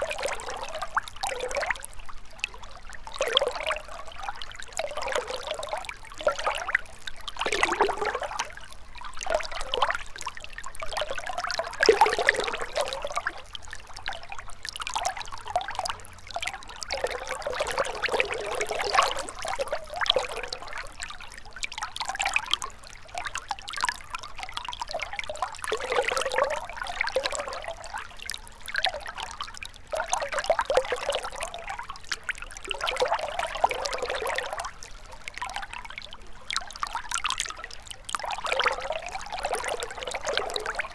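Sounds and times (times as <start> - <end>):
river water trickling over stones: 0.0 - 40.9.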